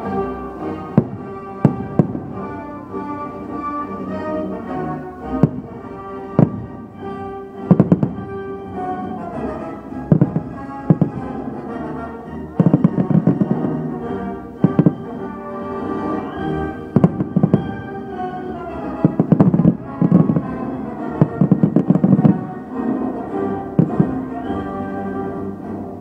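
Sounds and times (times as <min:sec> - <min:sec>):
fireworks bangs and crackles: 0:00.0 - 0:03.5, 0:04.1 - 0:24.8
steady music: 0:00.0 - 0:26.0.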